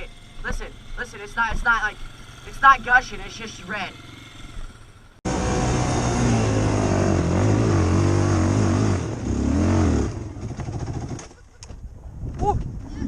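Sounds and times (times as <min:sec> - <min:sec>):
atv engine revving: 0:00.0 - 0:11.4.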